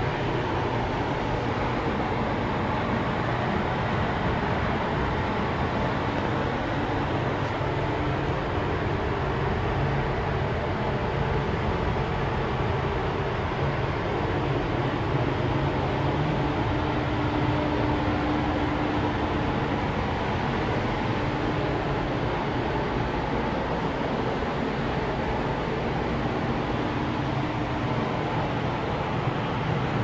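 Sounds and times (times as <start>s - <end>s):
faint hum: 0.0s - 30.0s
ventilation fan rushing air: 0.0s - 30.0s.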